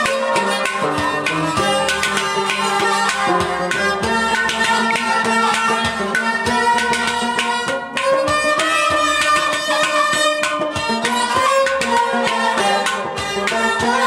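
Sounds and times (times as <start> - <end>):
bowed string instrument melody: 0.0 - 14.0
clay pot drum beaten rhythmically: 0.0 - 14.0.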